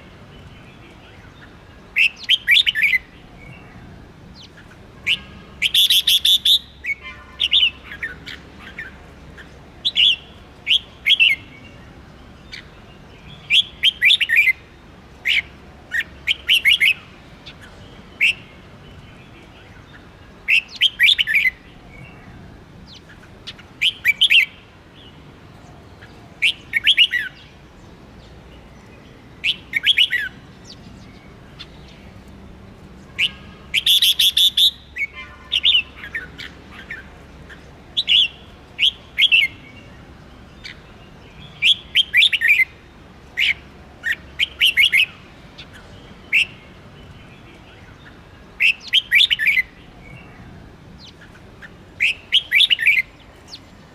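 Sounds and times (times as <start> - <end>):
bird chirping song: 0.0 - 53.9.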